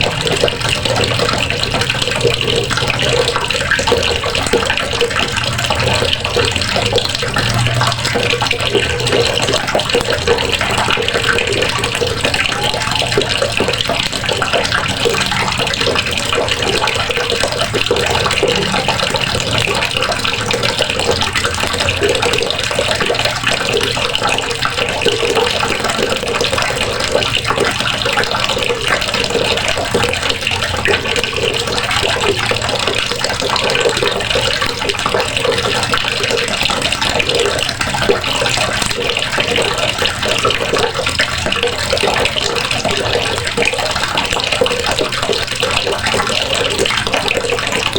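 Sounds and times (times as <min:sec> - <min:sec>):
water running from a faucet: 0:00.0 - 0:47.9.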